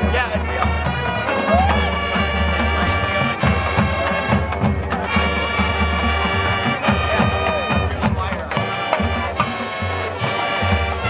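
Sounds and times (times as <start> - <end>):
marching band playing: 0.0 - 11.0.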